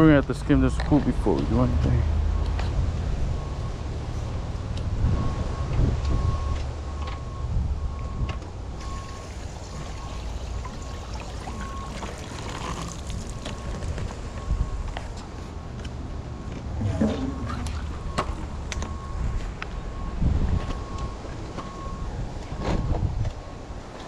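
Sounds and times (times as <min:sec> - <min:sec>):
wind rumbling on microphone: 0:02.6 - 0:15.2, 0:16.2 - 0:23.9.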